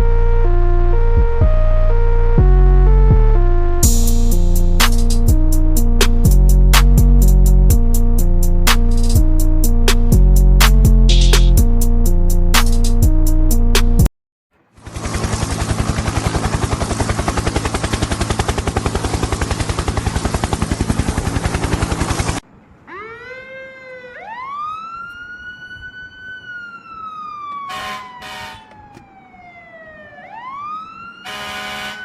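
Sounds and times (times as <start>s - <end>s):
wailing siren: 0.0s - 10.3s, 14.8s - 32.0s.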